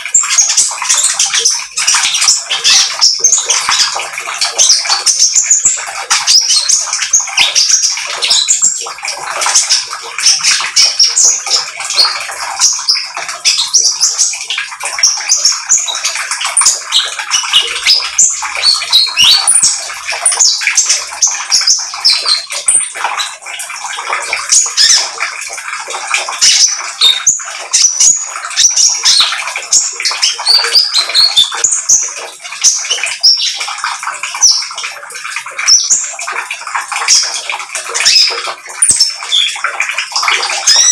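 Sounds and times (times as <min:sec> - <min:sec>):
bird singing chattering song: 0:00.0 - 0:25.2, 0:26.4 - 0:34.8, 0:37.1 - 0:40.9.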